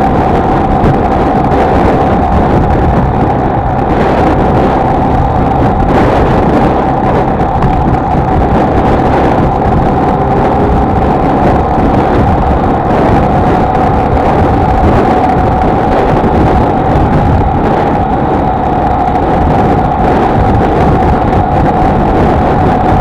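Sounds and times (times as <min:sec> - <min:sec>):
motorcycle engine running: 0:00.0 - 0:23.0
wind and road rush: 0:00.0 - 0:23.0.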